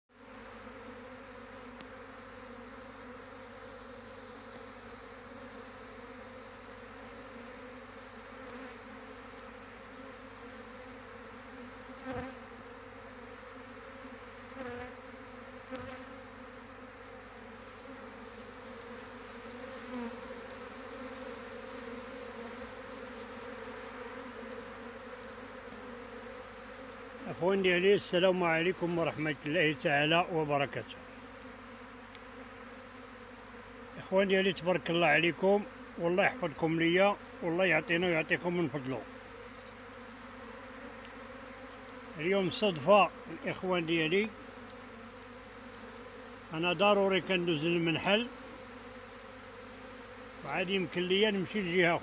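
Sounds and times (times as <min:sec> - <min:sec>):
swarm of bees buzzing: 0:00.1 - 0:52.0.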